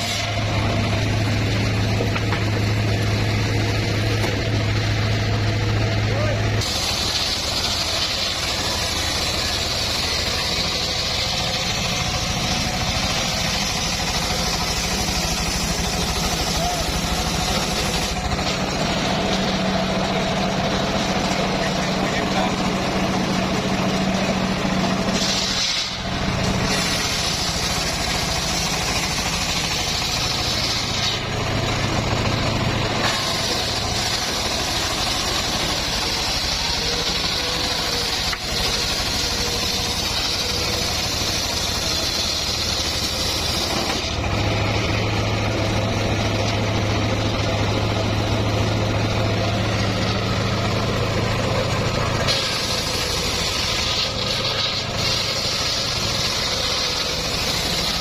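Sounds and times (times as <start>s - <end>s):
circular sawmill whine: 0.0s - 58.0s
low engine hum: 0.0s - 58.0s.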